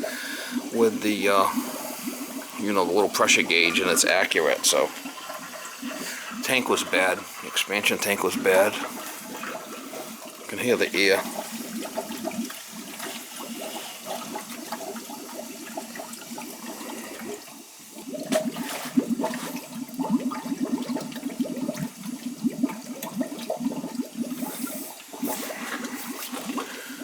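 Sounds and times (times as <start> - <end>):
air gurgling and sputtering: 0.0 - 27.0
water rushing through piping: 0.0 - 27.0.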